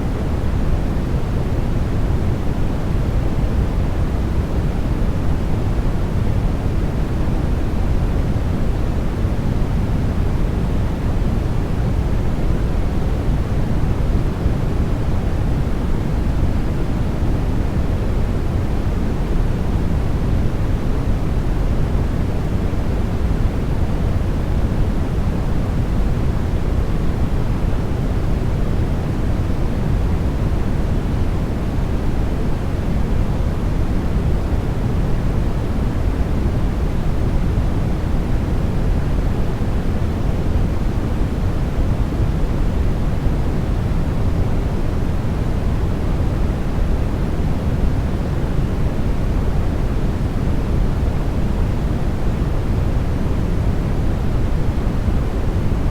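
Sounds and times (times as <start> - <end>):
low steady noise rush: 0.0 - 55.9.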